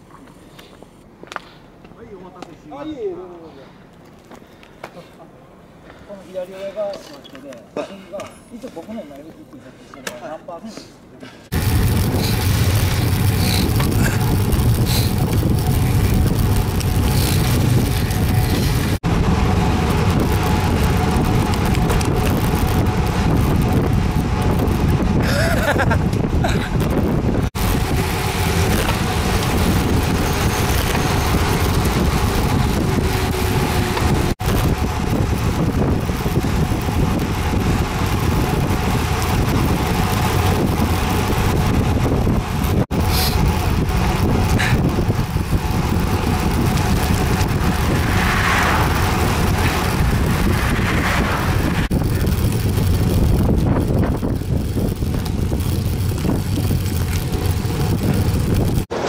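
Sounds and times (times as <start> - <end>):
wind buffeting microphone: 11.5 - 59.0.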